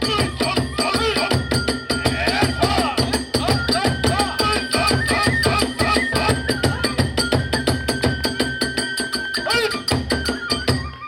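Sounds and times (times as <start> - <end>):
drums beating fast rhythm: 0.0 - 11.0
flute holding long notes: 0.0 - 11.0.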